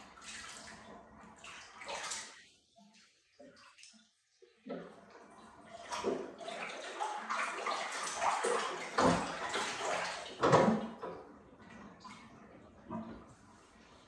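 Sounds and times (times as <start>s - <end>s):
bathwater splashing and sloshing: 0.0s - 14.0s.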